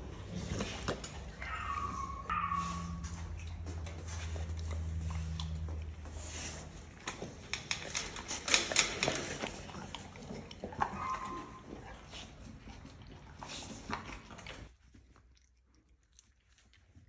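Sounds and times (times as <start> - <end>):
dogs chewing and smacking: 0.0 - 17.0.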